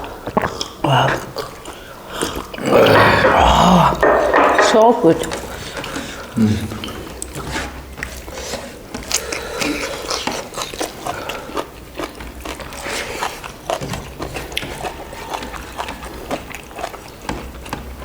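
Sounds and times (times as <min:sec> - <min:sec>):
people chewing and biting: 0:00.0 - 0:18.0.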